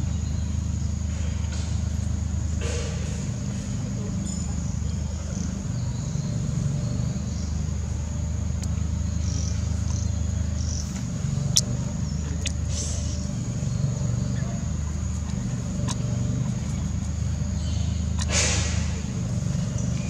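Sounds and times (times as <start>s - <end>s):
motor rumbling: 0.0s - 20.0s.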